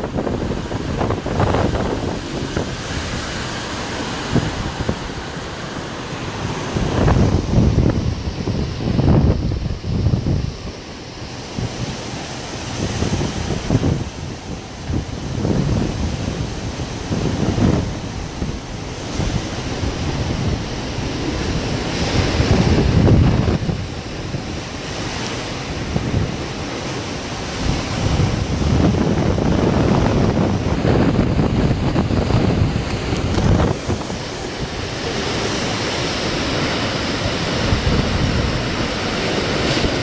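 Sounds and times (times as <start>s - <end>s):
strong wind buffeting microphone: 0.0s - 40.0s.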